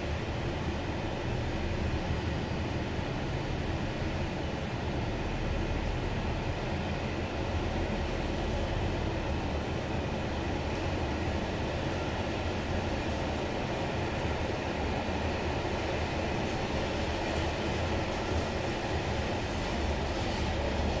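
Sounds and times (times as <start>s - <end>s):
freight train wheels on rails: 0.0s - 21.0s.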